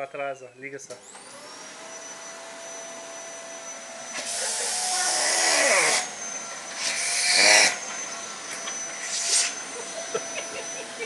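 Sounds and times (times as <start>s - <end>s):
vacuum cleaner whining: 0.9s - 11.0s.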